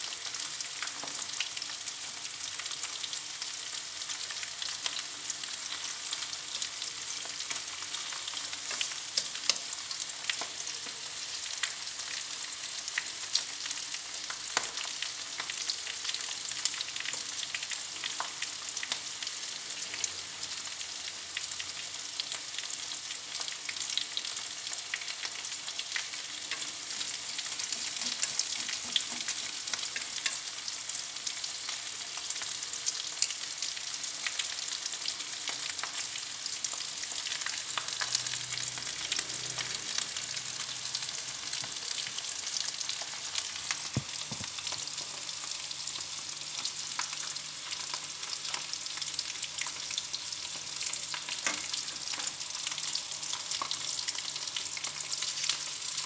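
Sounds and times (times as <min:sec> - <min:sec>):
shrimp sizzling in hot oil: 0:00.0 - 0:56.0.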